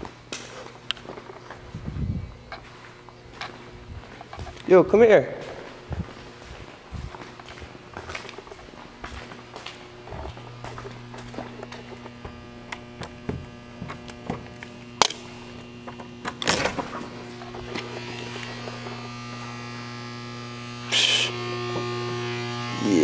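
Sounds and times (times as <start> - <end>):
steady electrical buzz: 0.0 - 23.0.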